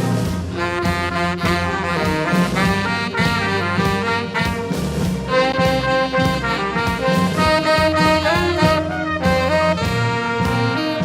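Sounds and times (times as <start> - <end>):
live band playing dance music: 0.0 - 11.0.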